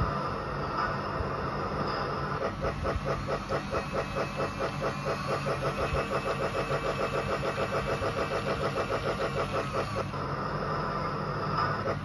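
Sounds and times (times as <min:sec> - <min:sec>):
fast chugging pulse: 0:00.0 - 0:12.0
toy train motor whirring: 0:00.0 - 0:12.0.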